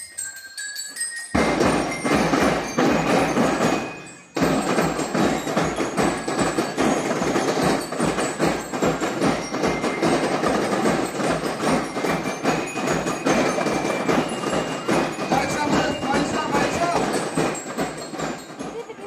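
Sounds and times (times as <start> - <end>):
music with steady beat: 1.0 - 19.0.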